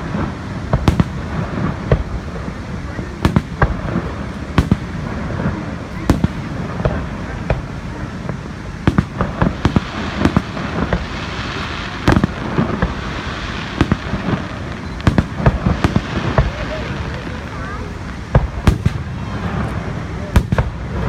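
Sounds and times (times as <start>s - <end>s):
continuous rumbling haze: 0.0s - 21.0s
fireworks bangs: 0.0s - 21.0s.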